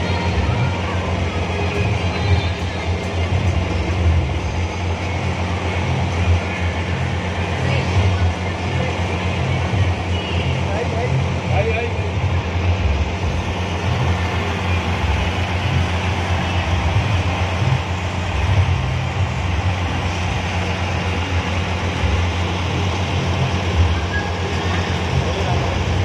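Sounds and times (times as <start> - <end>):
high noise haze: 0.0 - 26.0
loud deep bass: 0.0 - 26.0.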